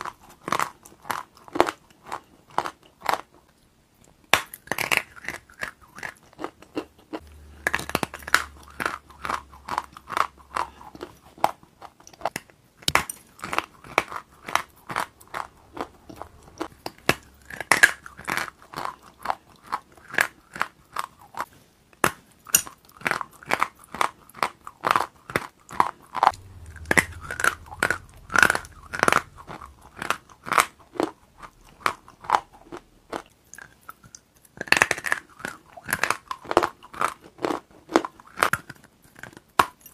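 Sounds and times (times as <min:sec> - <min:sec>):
crunching and chewing food: 0:00.0 - 0:39.9.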